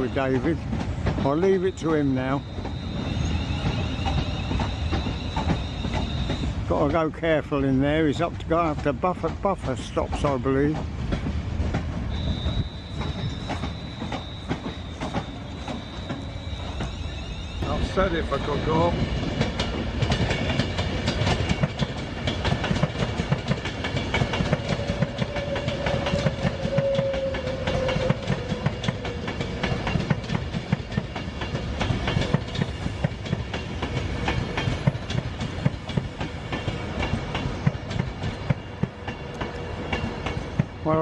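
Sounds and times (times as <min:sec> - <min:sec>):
train wheels clattering over rails: 0:00.0 - 0:41.0.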